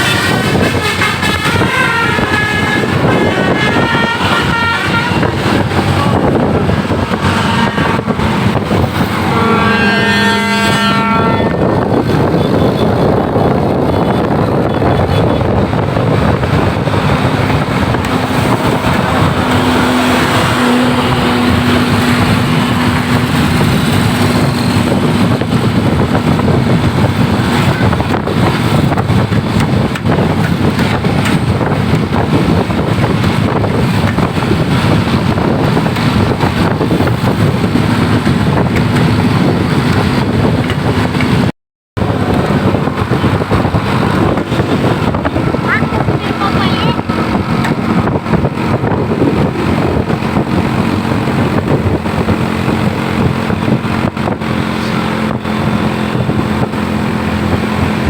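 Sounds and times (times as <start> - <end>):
road vehicle noise: 0.0 - 58.0
wind buffeting microphone: 0.0 - 58.0.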